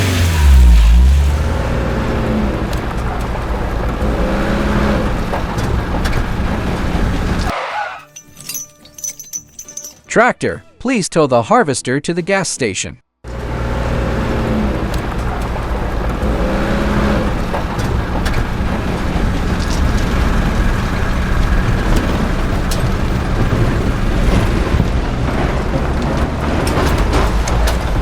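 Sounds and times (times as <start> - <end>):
tractor engine drone: 0.0 - 8.1, 13.3 - 28.0.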